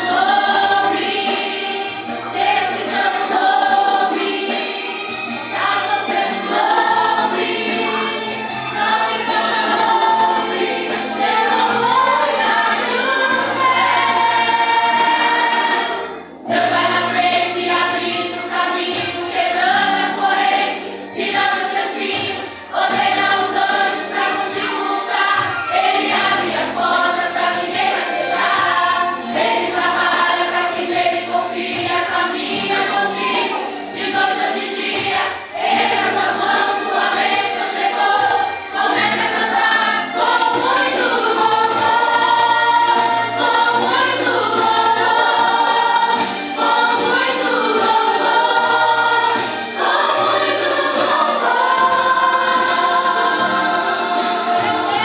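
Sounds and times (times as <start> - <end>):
vocal group singing: 0.0 - 55.0.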